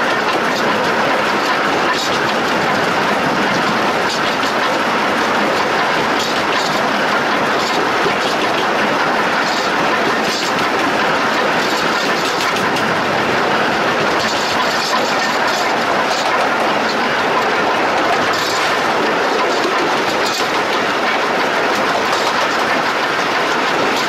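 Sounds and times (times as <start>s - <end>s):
clicks from the track: 0.0s - 13.0s, 14.0s - 24.0s
steam locomotive running gear: 0.0s - 24.0s.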